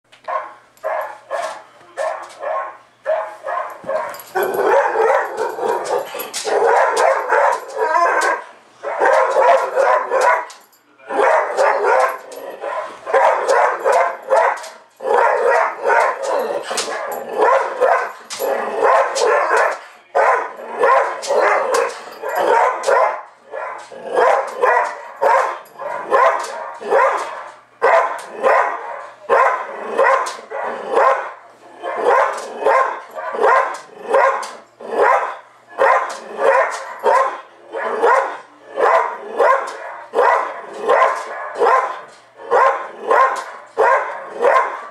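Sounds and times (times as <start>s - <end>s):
recorded barking from tv: 0.1s - 44.9s
dog barking: 0.2s - 44.9s.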